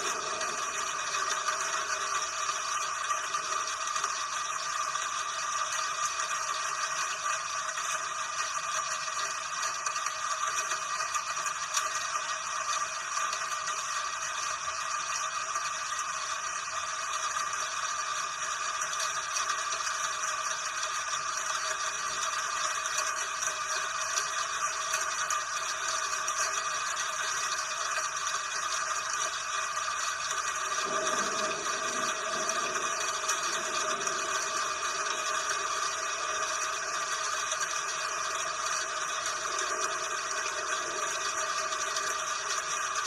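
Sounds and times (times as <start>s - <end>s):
rain falling steadily: 0.0s - 16.0s, 17.2s - 43.0s.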